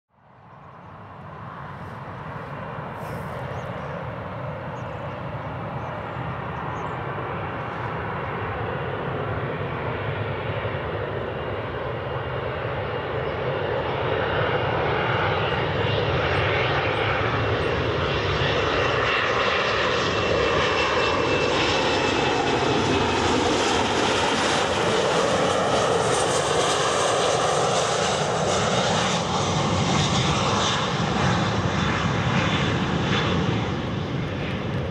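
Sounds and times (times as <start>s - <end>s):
jet engine rumble and whine: 0.2s - 34.9s.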